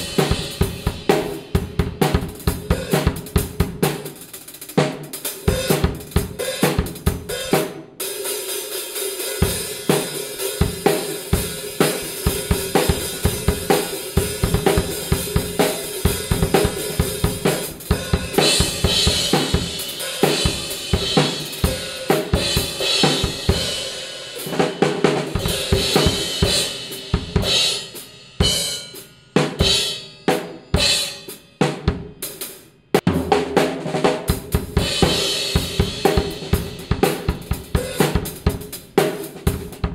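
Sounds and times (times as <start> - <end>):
drum kit groove: 0.0 - 39.9.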